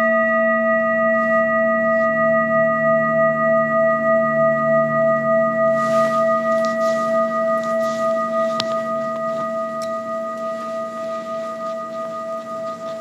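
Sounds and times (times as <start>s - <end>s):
metal singing bowl ringing: 0.0s - 13.0s.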